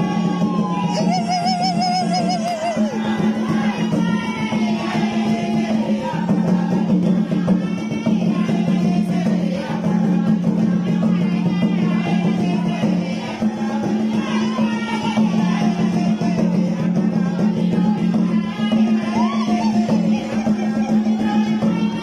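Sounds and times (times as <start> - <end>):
music with singing: 0.0 - 22.0.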